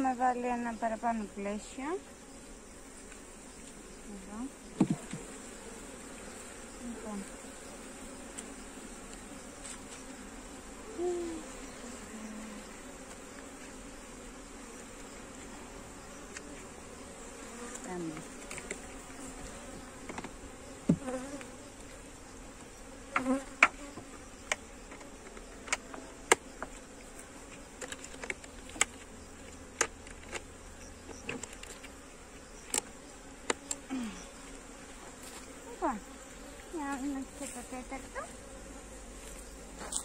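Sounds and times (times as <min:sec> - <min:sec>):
honeybees buzzing: 0:00.0 - 0:40.0.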